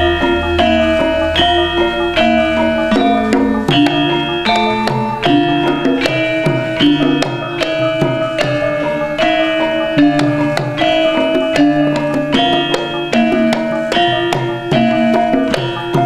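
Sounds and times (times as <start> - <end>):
gamelan gongs and metallophones: 0.0 - 16.0
hand drum strokes: 0.0 - 16.0.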